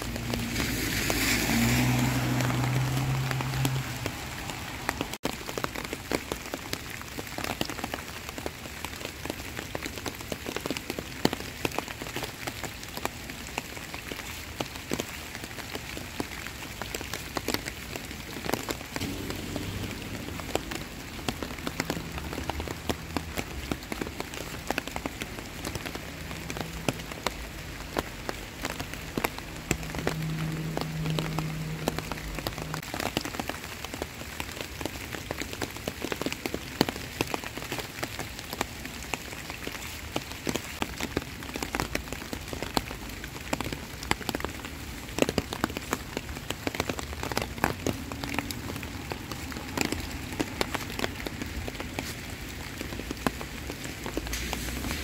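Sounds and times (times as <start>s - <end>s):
heavy rain: 0.0s - 55.0s
raindrops ticking: 0.0s - 55.0s.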